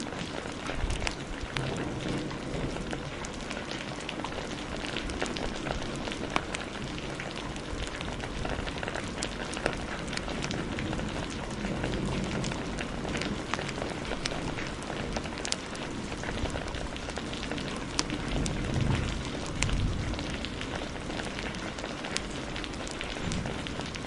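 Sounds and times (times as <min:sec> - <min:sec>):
heavy rain falling: 0:00.0 - 0:24.0
wood fire crackling: 0:00.0 - 0:24.0.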